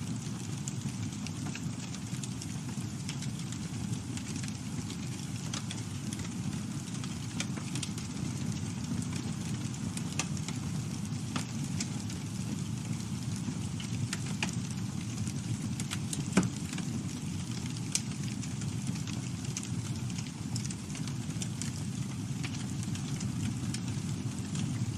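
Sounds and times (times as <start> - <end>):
burning wood crackling and popping: 0.0 - 24.9
campfire flames rushing: 0.0 - 24.9.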